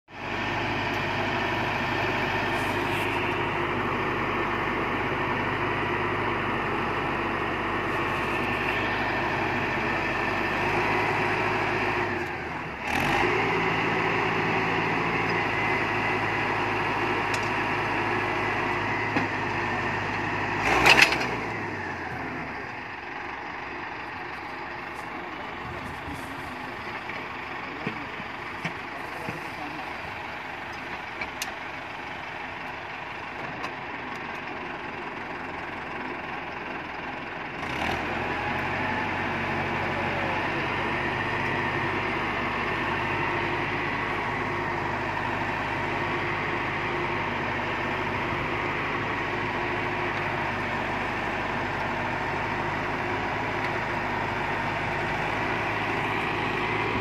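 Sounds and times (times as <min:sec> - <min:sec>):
diesel engine running: 0:00.1 - 0:57.0.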